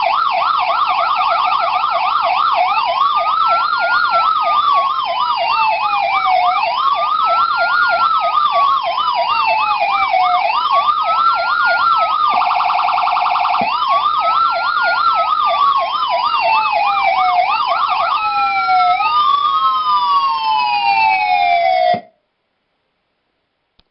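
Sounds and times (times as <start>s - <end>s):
electronic siren yelp and wail: 0.0s - 22.2s.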